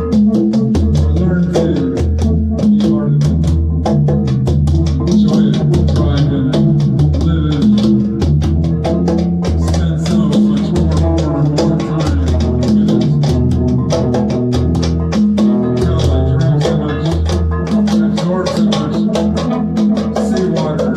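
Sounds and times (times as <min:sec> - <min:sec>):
fast drum and shaker strokes: 0:00.0 - 0:20.9
guitar: 0:00.0 - 0:20.9
repeating bass line: 0:00.0 - 0:20.9.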